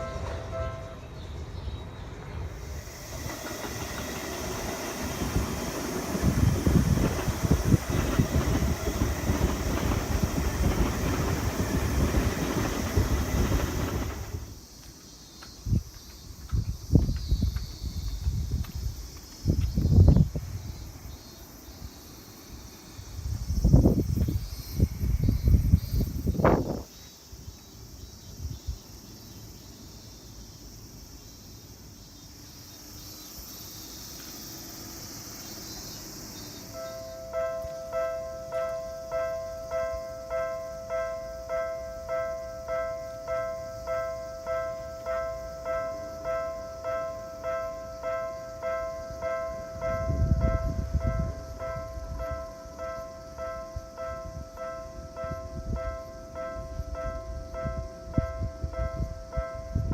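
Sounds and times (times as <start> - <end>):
high hiss: 0.0 - 57.5
electric train passing: 0.0 - 59.9.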